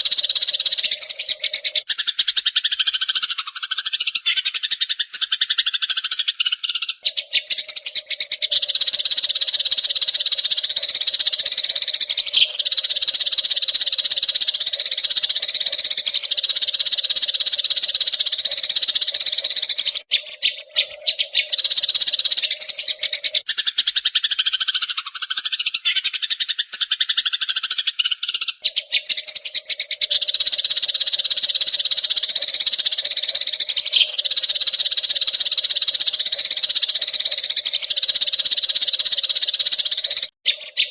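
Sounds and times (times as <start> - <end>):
sparrows chattering: 0.0 - 40.9.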